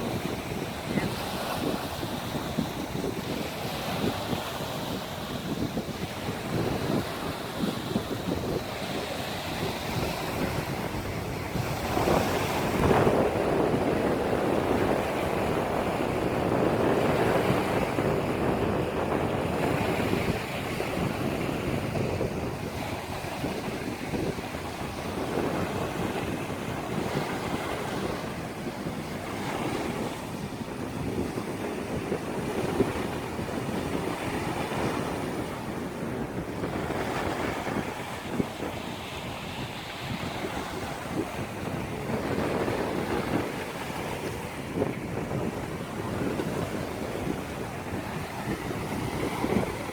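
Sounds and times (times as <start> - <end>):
small sea waves washing in: 0.0 - 49.9.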